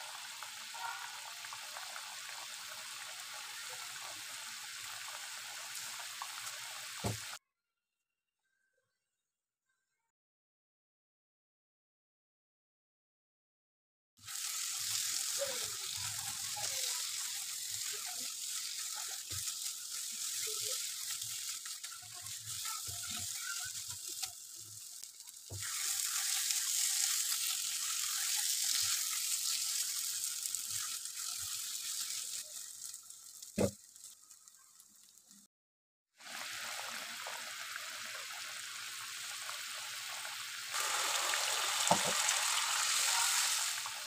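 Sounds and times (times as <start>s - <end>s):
food sizzling in frying pan: 0.0s - 7.4s, 14.2s - 35.5s, 36.2s - 44.0s.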